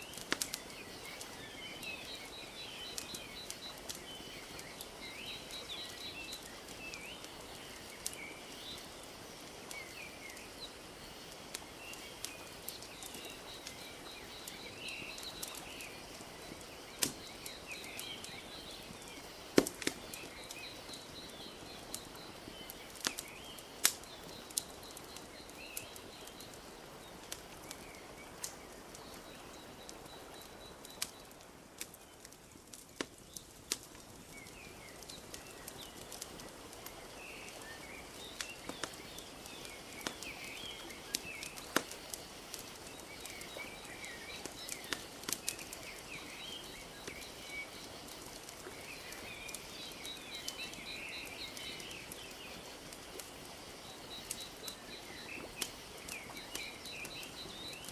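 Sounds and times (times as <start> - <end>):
birds chirping: 0.0 - 57.9
wood fire crackling: 0.0 - 57.9.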